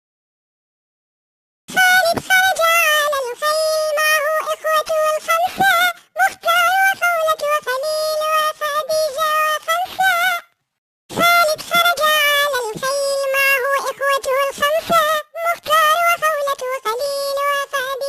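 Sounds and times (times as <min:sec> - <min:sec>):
high pitched-up voice singing: 0:01.7 - 0:18.0.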